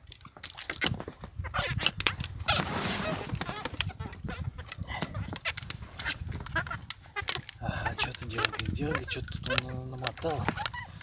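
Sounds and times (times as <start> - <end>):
fishing gear clicking and knocking: 0.0 - 2.4, 3.3 - 11.0
wind rumble on microphone: 0.7 - 11.0.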